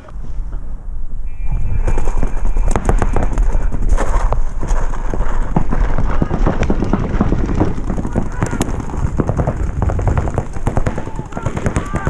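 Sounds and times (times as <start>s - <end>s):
low wind rumble: 0.0s - 12.0s
paintball markers firing: 1.9s - 12.0s
running footsteps: 1.9s - 12.0s.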